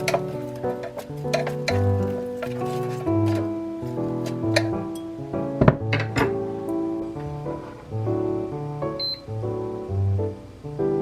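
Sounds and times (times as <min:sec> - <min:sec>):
held instrumental notes: 0:00.0 - 0:11.0.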